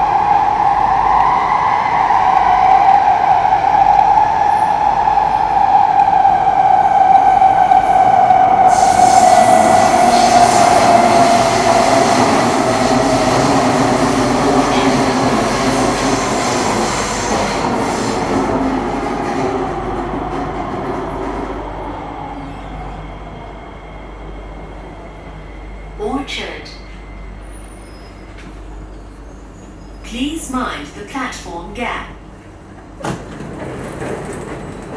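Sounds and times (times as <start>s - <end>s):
train slowing to a stop: 0.0s - 31.0s, 32.2s - 34.9s.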